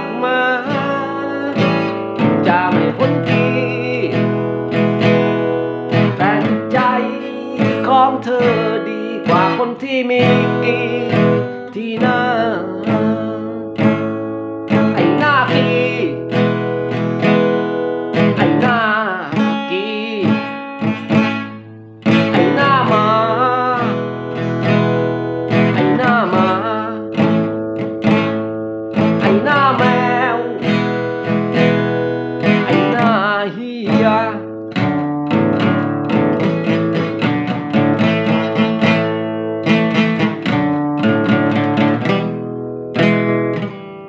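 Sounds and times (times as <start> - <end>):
man singing: 0.0 - 42.3
acoustic guitar strumming: 0.0 - 44.0.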